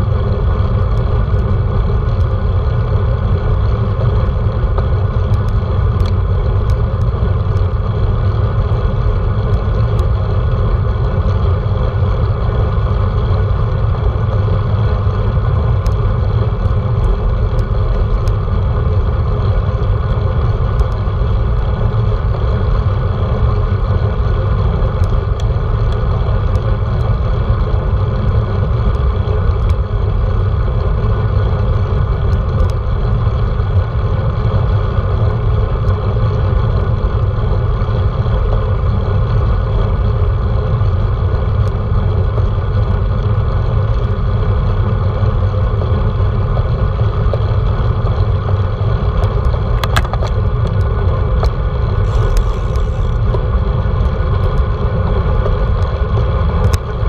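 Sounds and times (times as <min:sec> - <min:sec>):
tyres rolling on asphalt: 0:00.0 - 0:57.0
wind rumble on microphone: 0:00.0 - 0:57.0.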